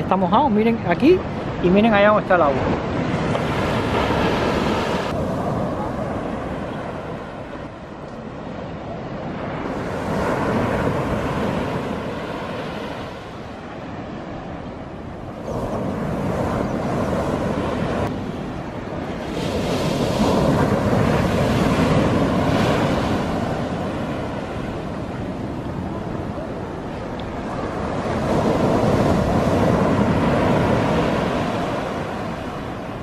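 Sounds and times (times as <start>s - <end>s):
waves crashing on shore: 0.0s - 33.0s
wind rumble on microphone: 0.0s - 33.0s.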